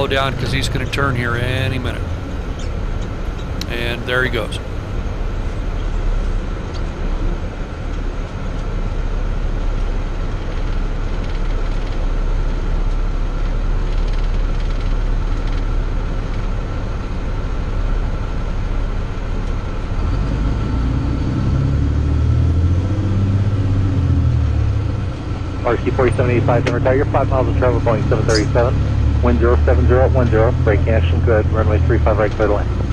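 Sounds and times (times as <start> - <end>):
faint steady whine: 0.0 - 32.9
truck engine and road rumble: 0.0 - 32.9.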